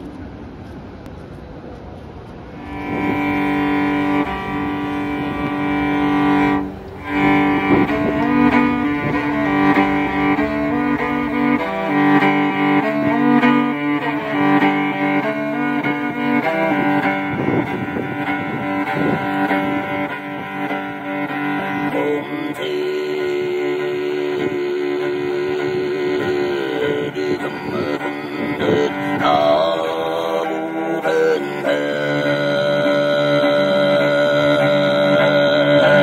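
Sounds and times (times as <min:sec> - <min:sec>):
steady held drone: 0:00.0 - 0:36.0
bowed string instrument: 0:02.2 - 0:36.0.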